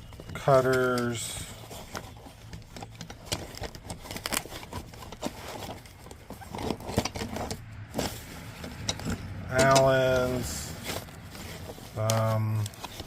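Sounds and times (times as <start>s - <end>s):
fabric rustling: 0.0s - 13.0s
hand tools clicking and clinking: 0.0s - 13.0s.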